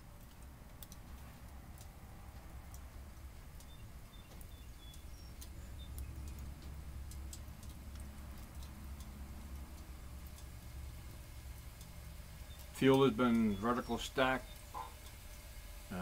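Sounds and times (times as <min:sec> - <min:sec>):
low fire rumble: 0:00.0 - 0:16.0
wood stove fire crackling: 0:00.0 - 0:16.0.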